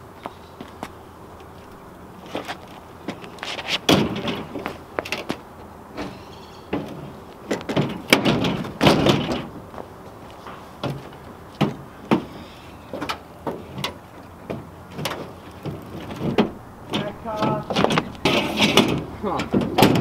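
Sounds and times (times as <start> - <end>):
bike knocking and clanking on truck: 2.2 - 5.4, 6.0 - 20.0.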